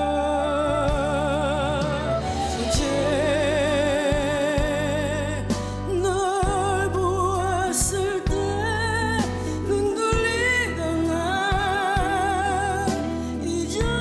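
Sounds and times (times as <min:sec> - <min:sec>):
band with strings and bass: 0:00.0 - 0:14.0
woman singing a ballad: 0:00.0 - 0:14.0.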